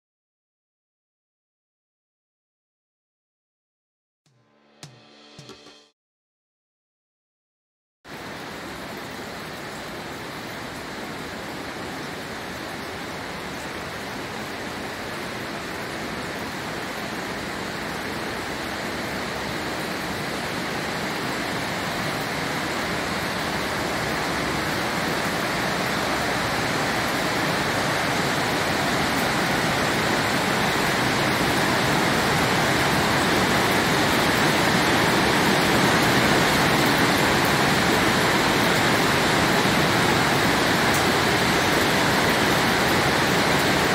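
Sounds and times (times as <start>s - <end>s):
water cascading in a cave: 8.1s - 43.9s.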